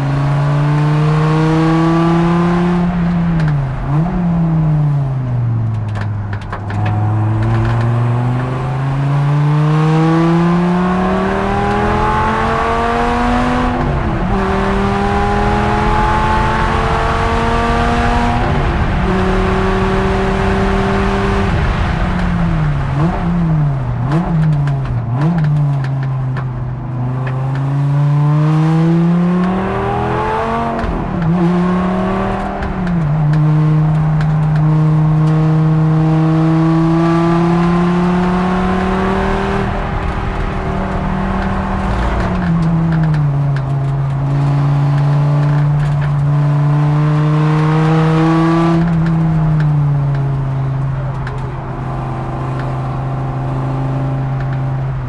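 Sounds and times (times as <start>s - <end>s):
race car engine shifting gears: 5.5s - 55.0s.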